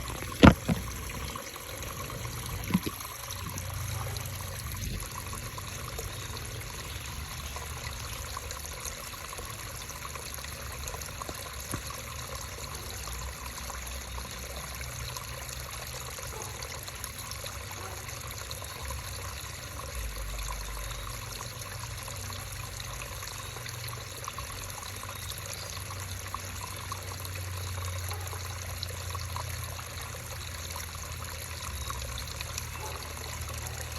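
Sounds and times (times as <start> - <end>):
creek water trickling: 0.0 - 33.9.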